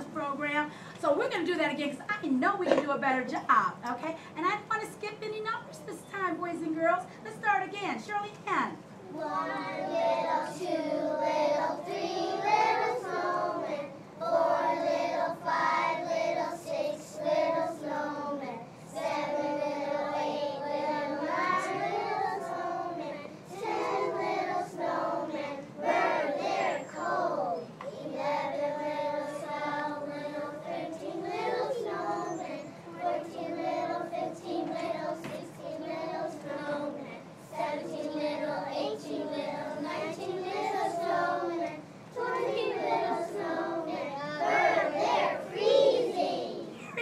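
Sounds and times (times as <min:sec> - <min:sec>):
children singing in unison: 0:09.0 - 0:47.0.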